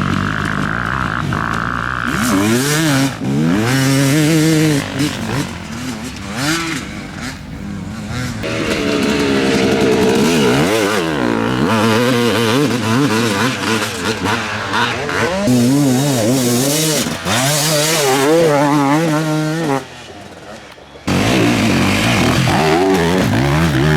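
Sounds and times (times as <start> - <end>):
motorcycle engines revving: 0.0 - 23.9.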